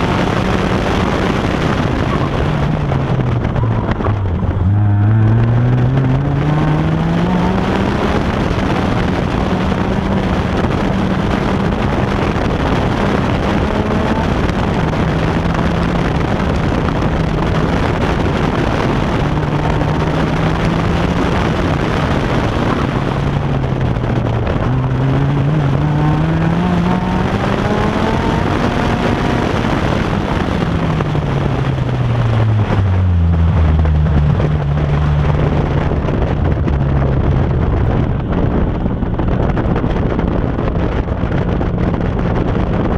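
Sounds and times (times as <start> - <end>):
car engine revving: 0.0 - 42.9
wind rushing on microphone: 0.0 - 42.9.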